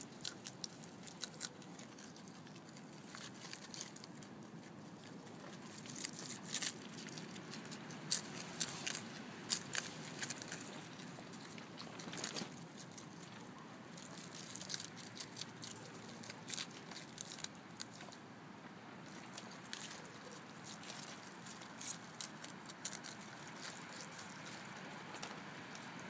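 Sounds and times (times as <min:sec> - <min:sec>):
groundhog chewing lettuce: 0:00.0 - 0:26.0.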